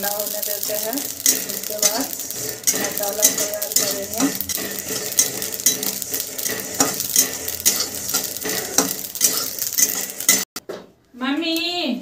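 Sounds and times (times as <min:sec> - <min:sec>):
spatula scraping metal pan: 0:00.0 - 0:10.5
spice seeds rustling: 0:00.0 - 0:10.5.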